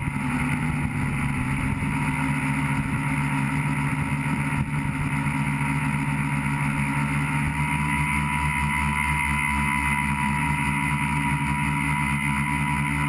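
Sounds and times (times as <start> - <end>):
drone motors and propellers buzzing: 0.0 - 13.0.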